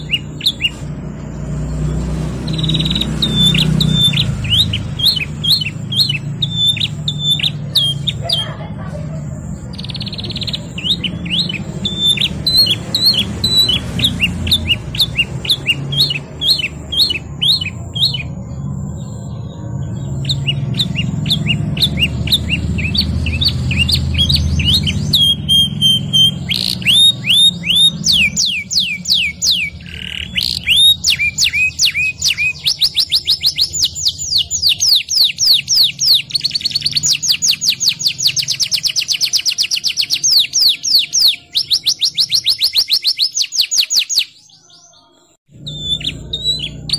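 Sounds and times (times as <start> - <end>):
canary singing: 0.0 - 46.9.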